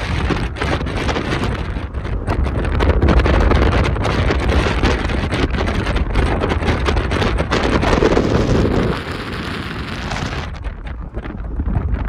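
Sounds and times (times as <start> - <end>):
car road noise at speed: 0.0 - 12.0
wind buffeting microphone: 0.0 - 12.0.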